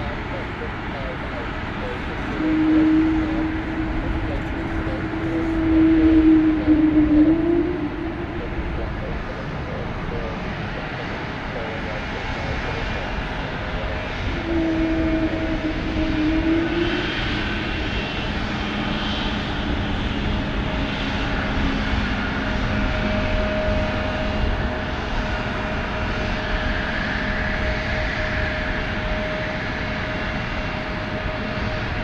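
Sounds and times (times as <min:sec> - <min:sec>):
airliner engines running: 0:00.0 - 0:32.0.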